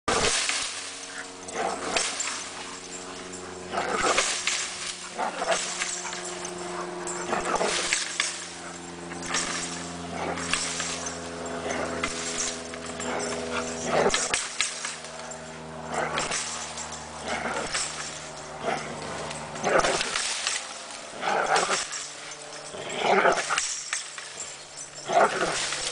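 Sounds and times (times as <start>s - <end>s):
steady whine: 0.1s - 25.9s.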